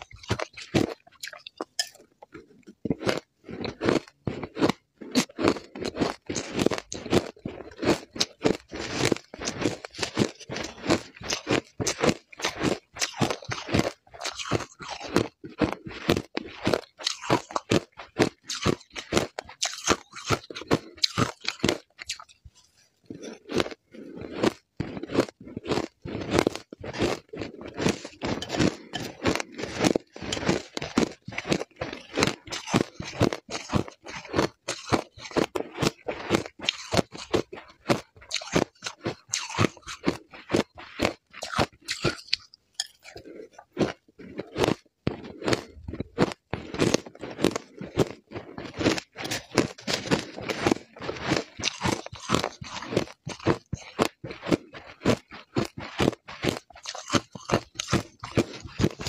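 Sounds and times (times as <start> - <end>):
ice crunching in chewing: 0.0 - 59.0.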